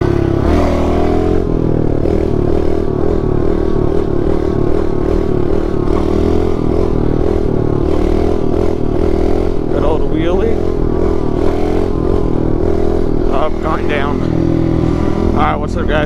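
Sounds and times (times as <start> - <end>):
pit bike engine running: 0.0 - 16.0.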